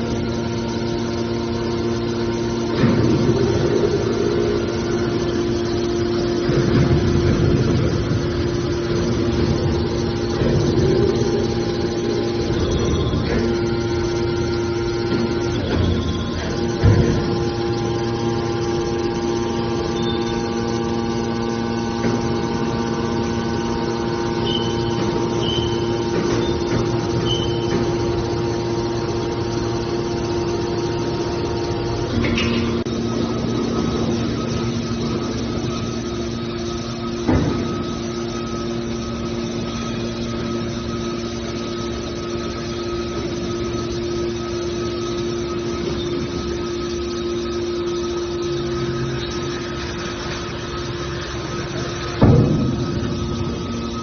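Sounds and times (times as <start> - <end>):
baler machinery humming: 0.0 - 54.0.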